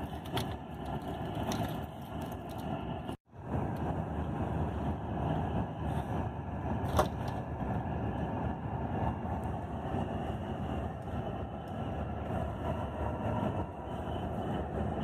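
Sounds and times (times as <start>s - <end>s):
coach engine and road rumble: 0.0s - 15.0s.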